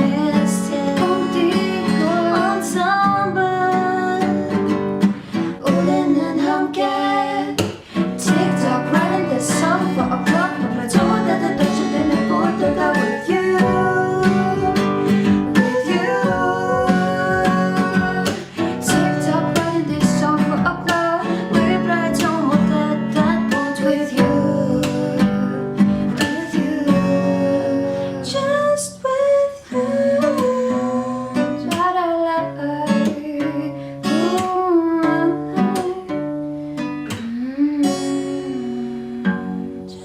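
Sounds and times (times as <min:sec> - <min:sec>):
pop song with acoustic guitar: 0:00.0 - 0:40.0.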